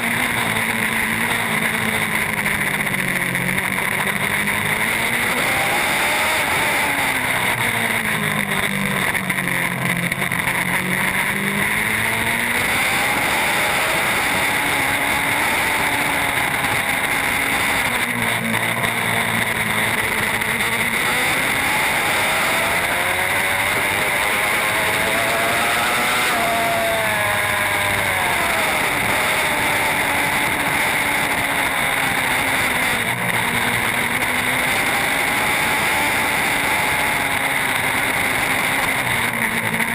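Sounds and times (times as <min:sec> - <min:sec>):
superbike engine revving: 0:00.0 - 0:39.9.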